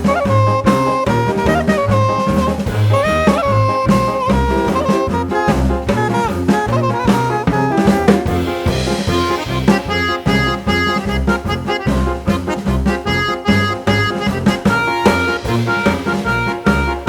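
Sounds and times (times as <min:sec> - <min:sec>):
upbeat jazz-style music: 0:00.0 - 0:17.0.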